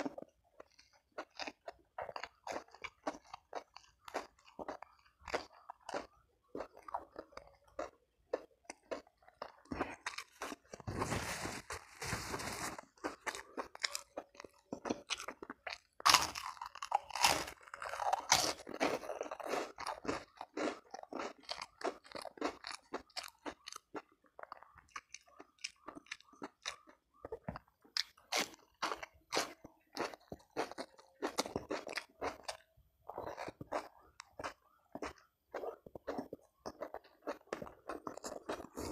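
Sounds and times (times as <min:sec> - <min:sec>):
chewing and crunching crisp food: 0:00.0 - 0:38.9.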